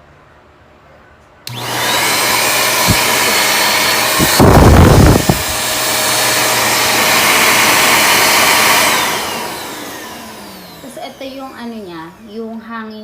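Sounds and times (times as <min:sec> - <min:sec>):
handheld vacuum cleaner whining: 0:01.5 - 0:12.6.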